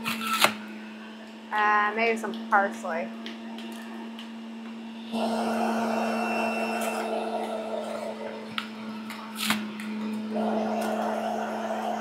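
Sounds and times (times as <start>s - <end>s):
juicer shredding greens: 0.0s - 1.5s, 3.2s - 12.0s
juicer motor hum: 0.0s - 12.0s.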